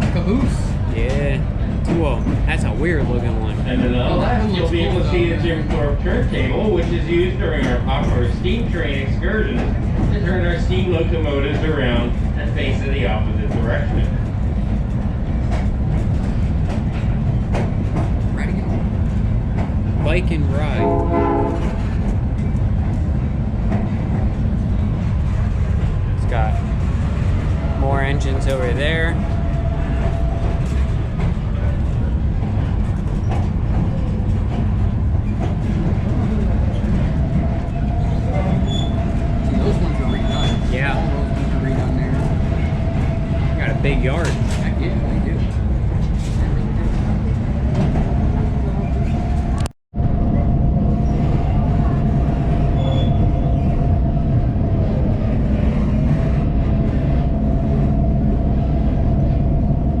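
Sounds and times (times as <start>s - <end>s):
train wheels clacking: 0.0s - 49.5s
train car rumbling on track: 0.0s - 60.0s.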